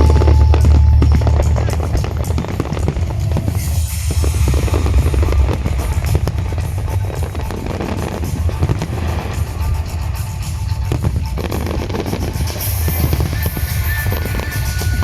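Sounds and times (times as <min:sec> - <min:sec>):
fireworks booming: 0:00.0 - 0:15.0
fireworks crackling: 0:00.0 - 0:15.0
music playing: 0:00.0 - 0:15.0.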